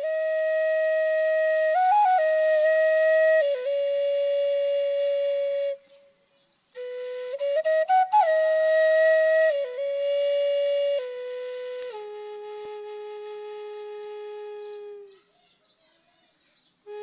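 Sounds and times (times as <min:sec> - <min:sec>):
flute-like wind instrument melody: 0:00.0 - 0:06.2, 0:06.8 - 0:15.2.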